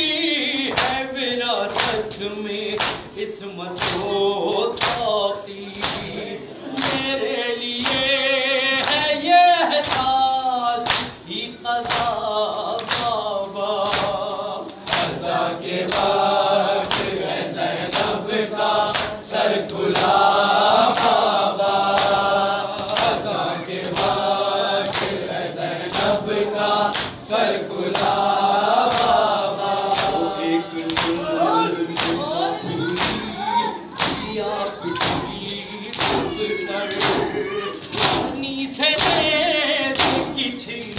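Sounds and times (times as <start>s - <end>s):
man singing lament: 0.0s - 17.0s, 18.0s - 40.9s
group of men chanting: 0.0s - 40.9s
rhythmic chest-beating strikes: 0.0s - 40.9s.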